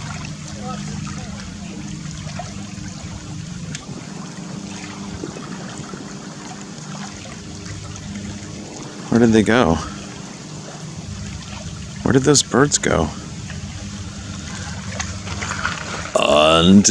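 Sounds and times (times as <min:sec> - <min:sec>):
faint low hum: 0:00.0 - 0:16.9
water trickling and lapping: 0:00.0 - 0:16.9.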